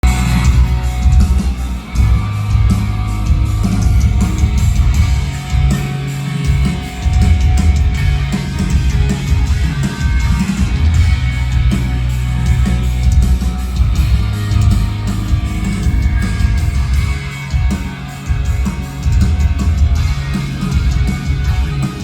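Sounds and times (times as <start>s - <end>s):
electric guitar: 0.0s - 22.0s
heavy bass line and beat: 0.0s - 22.0s.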